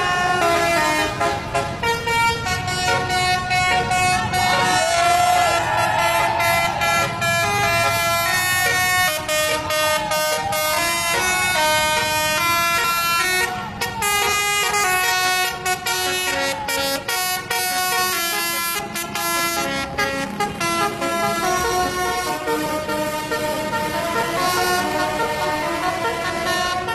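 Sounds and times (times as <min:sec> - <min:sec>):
air horn playing a tune: 0:00.0 - 0:26.9
bus engine: 0:00.0 - 0:26.9.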